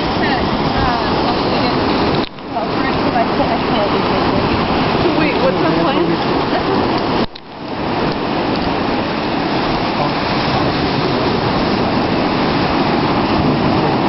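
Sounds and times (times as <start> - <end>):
ocean surf: 0.0 - 14.0
wind on microphone: 0.0 - 14.0.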